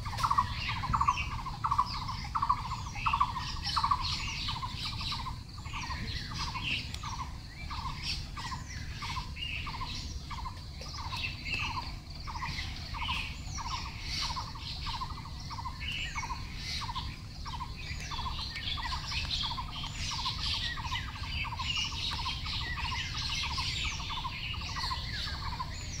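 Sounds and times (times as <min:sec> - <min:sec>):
birds chirping and squawking: 0:00.0 - 0:26.0
low steady hum: 0:00.0 - 0:26.0.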